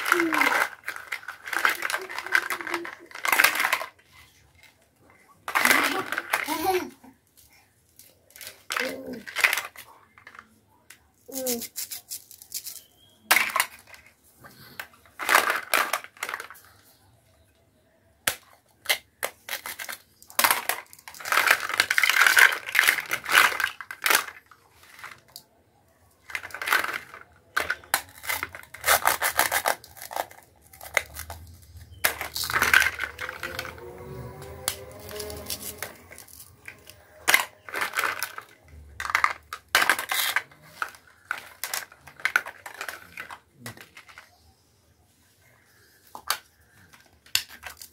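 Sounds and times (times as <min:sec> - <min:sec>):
plastic toy pieces clattering: 0:00.0 - 0:17.0, 0:18.2 - 0:25.5, 0:26.1 - 0:44.5, 0:46.0 - 0:47.9
plastic rustling and scraping: 0:00.0 - 0:17.1, 0:18.7 - 0:25.5, 0:26.1 - 0:47.9.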